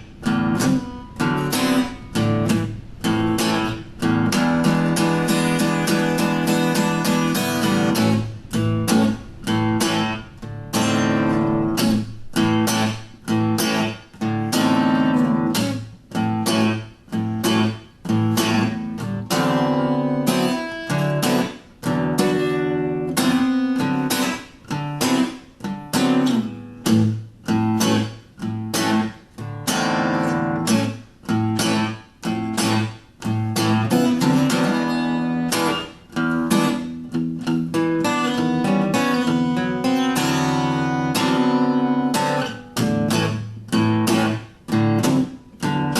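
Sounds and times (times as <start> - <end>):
acoustic guitar strummed and picked: 0.0 - 45.9.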